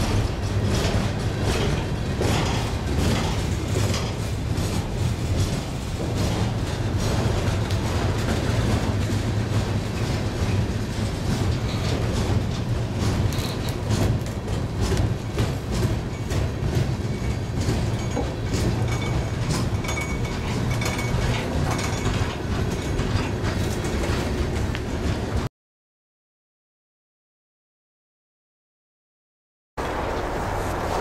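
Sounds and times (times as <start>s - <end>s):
train wheels rumbling on rails: 0.0s - 25.5s, 29.8s - 31.0s
wheels clacking over rail joints: 0.0s - 25.5s, 29.8s - 31.0s.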